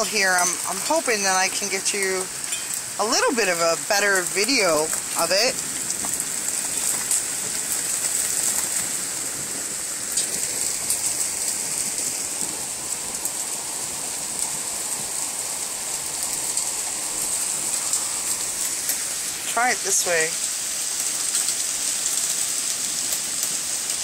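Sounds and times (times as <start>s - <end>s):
sharp ticks of hail: 0.0s - 15.2s, 15.9s - 24.0s
heavy rain and hail falling: 0.0s - 24.0s.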